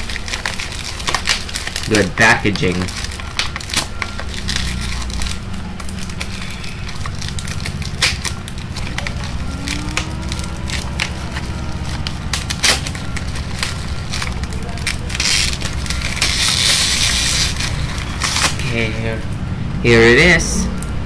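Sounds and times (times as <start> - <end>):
bubble wrap crackling: 0.0 - 19.0.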